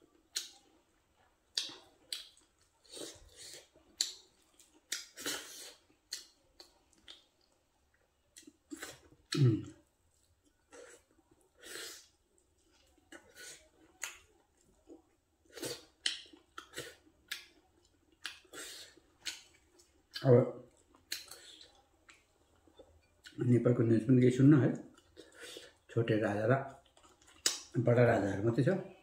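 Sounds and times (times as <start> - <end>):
man chewing food: 0.0 - 23.4, 24.8 - 25.9, 26.7 - 27.8.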